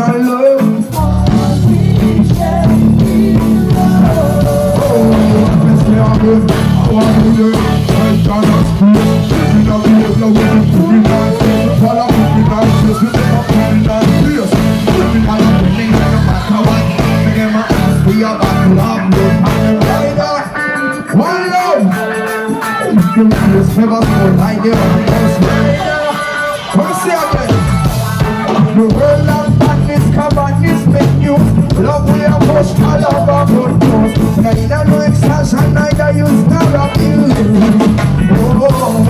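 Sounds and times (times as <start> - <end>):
heavy bass line: 0.0 - 39.0
reggae band playing: 0.0 - 39.0.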